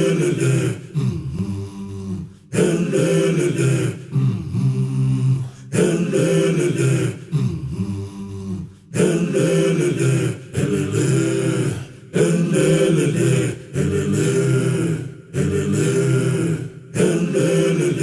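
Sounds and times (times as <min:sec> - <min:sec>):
group of voices chanting: 0:00.0 - 0:18.0.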